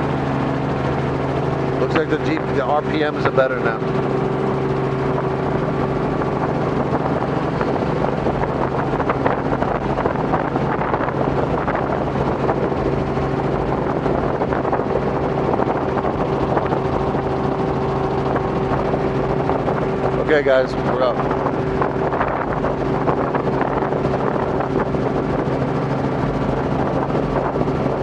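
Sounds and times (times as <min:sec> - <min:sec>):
helicopter engine and rotors: 0:00.0 - 0:28.0.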